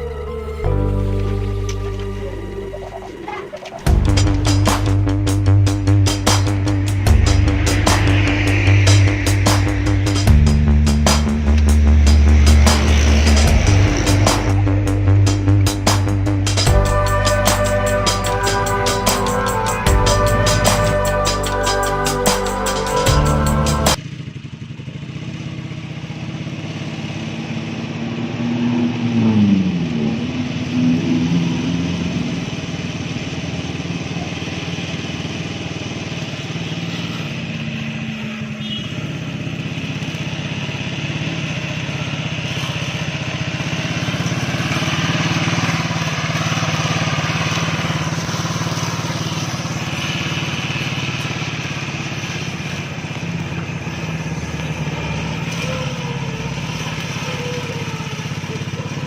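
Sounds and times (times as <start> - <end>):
small engine running: 0.0 - 29.6, 30.8 - 59.0.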